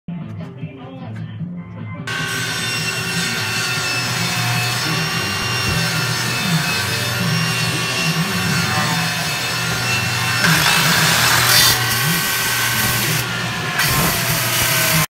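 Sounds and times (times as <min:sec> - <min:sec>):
blade rasping in wood: 0:02.1 - 0:15.0
power tool motor whine: 0:02.1 - 0:15.0.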